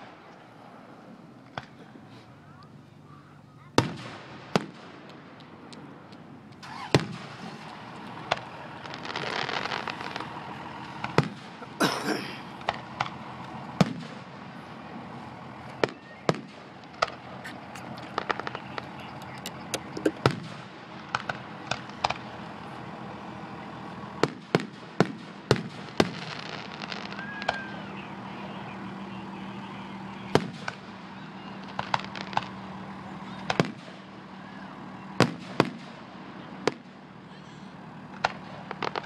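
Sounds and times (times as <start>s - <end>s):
fireworks bursting bangs: 3.6s - 11.9s, 12.5s - 22.6s, 23.3s - 37.2s, 37.8s - 39.0s.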